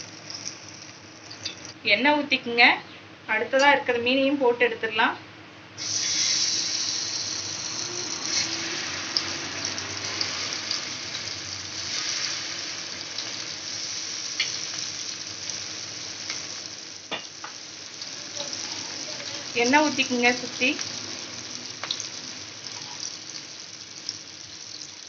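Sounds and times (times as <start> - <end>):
fish sizzling in oil: 0.0 - 1.8, 5.8 - 25.0.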